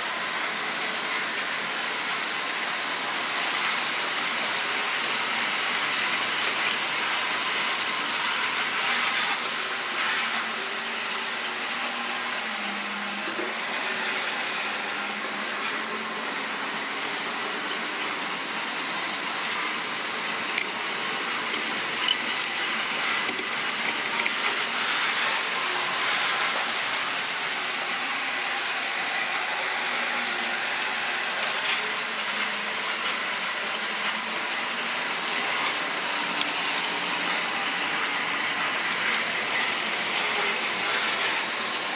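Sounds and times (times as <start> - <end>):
model train whirring on track: 0.0 - 41.9.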